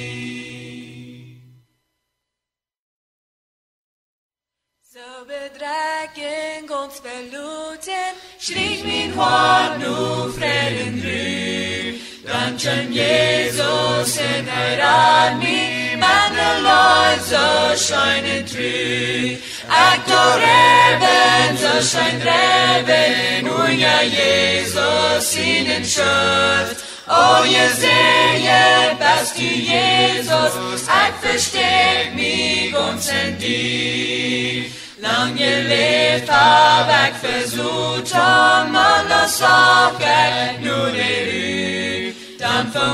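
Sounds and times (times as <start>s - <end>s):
voices singing a slow hymn: 0.0s - 1.6s, 4.9s - 42.9s.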